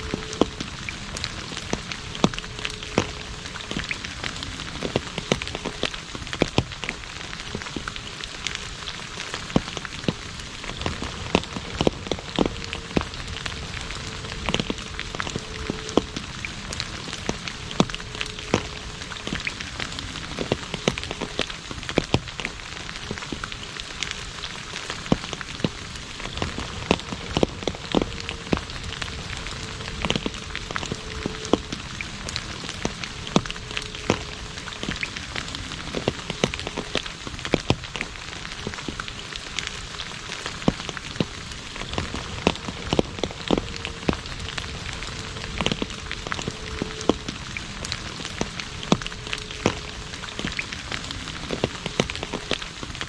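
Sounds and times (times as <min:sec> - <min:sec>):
rain pattering on asphalt: 0:00.0 - 0:53.0.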